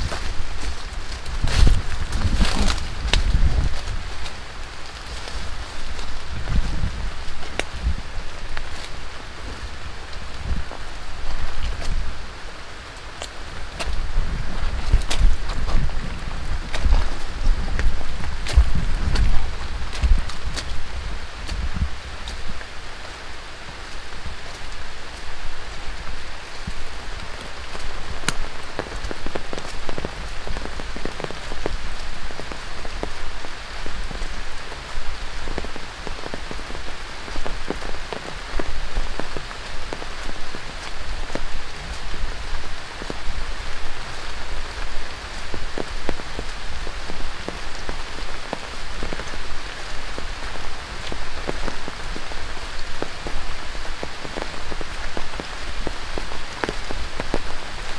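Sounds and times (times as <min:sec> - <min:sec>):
heavy rain on foliage: 0:00.0 - 0:57.9.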